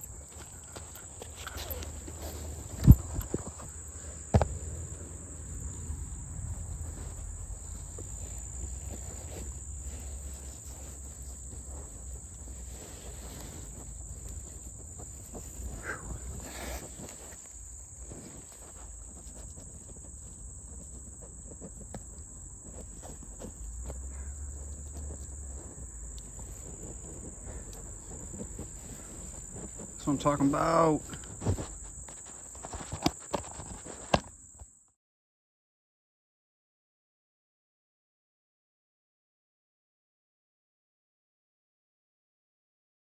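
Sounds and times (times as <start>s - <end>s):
handling rustles: 0.0s - 34.6s
insects chirring: 0.0s - 34.9s.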